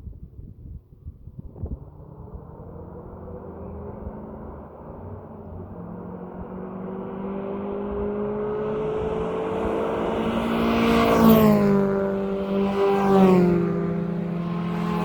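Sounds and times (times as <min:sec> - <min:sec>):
car engine passing by: 0:01.6 - 0:15.0.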